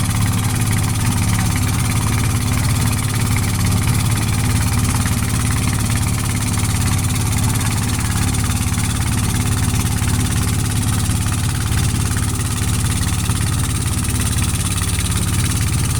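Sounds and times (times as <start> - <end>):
boat engine running: 0.0 - 15.9.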